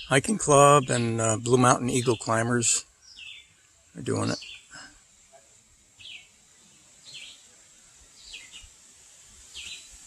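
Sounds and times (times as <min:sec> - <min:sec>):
songbird chirping: 0:00.0 - 0:04.8, 0:05.4 - 0:08.8, 0:09.4 - 0:10.0
faint high hiss: 0:00.0 - 0:10.0.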